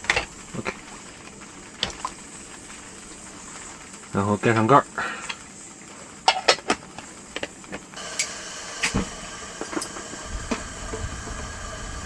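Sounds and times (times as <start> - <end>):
camping stove burner hissing: 0.0 - 12.0.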